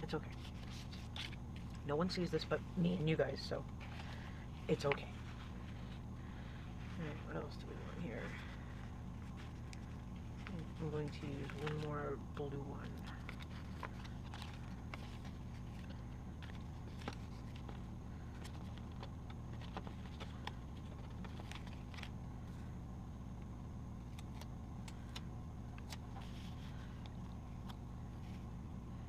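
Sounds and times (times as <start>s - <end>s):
paper rustling: 0.0s - 22.7s, 24.1s - 28.5s
steady low hum: 0.0s - 29.0s.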